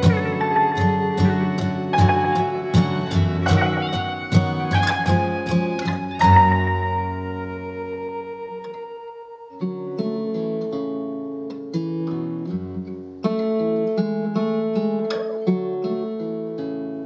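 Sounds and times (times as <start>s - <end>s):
guitar plucking and strumming chords: 0.0s - 17.0s.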